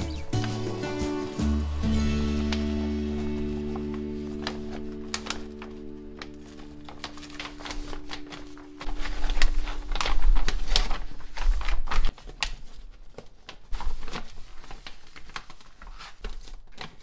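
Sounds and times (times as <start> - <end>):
reflective fabric crinkling: 2.4 - 17.0.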